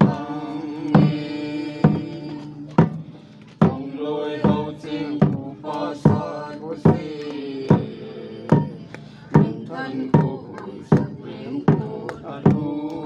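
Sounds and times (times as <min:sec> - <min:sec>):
barrel drum beating: 0:00.0 - 0:12.8
group singing a hymn: 0:00.0 - 0:13.0.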